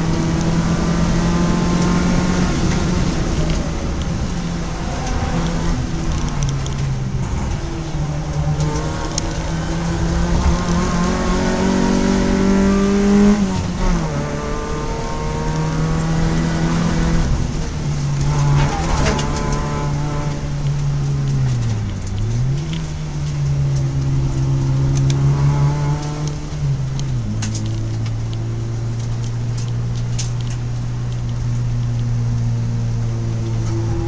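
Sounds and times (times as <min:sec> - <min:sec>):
car engine driving: 0:00.0 - 0:34.0.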